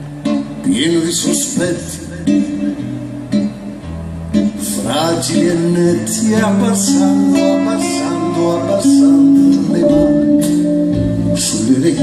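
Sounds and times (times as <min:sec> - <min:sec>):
acoustic guitar: 0:00.0 - 0:12.0
man singing: 0:00.6 - 0:02.8, 0:04.6 - 0:12.0.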